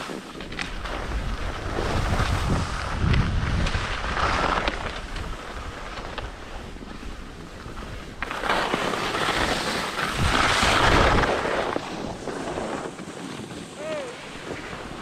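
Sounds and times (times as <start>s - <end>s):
skis scraping over snow: 0.0s - 15.0s
wind on microphone: 0.0s - 15.0s.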